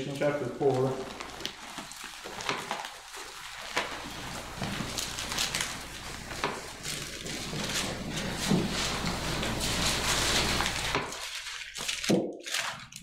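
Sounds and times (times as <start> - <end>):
pages rustling: 0.0 - 13.0.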